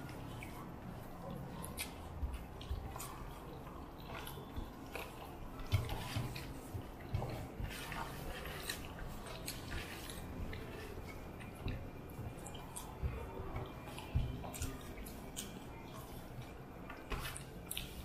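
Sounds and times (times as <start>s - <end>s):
wet squish of food mixed by hand: 0.0s - 18.0s
chewing and mouth smacks: 1.3s - 18.0s.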